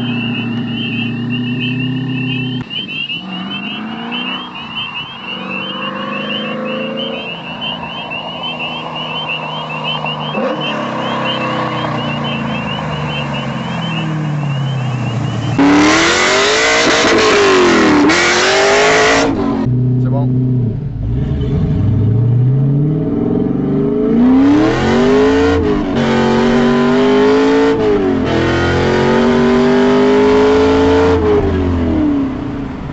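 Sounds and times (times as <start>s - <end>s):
car engine accelerating hard: 0.0s - 32.9s
car passing at high revs: 0.0s - 32.9s.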